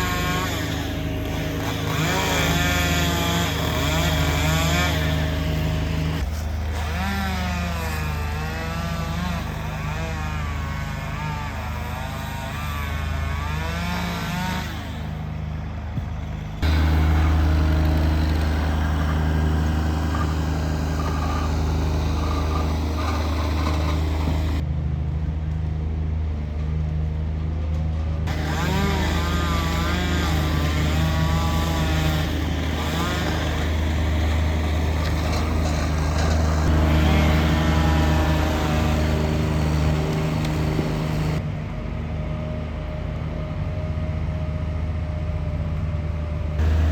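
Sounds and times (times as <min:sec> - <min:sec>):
large engine humming: 0:00.0 - 0:46.9.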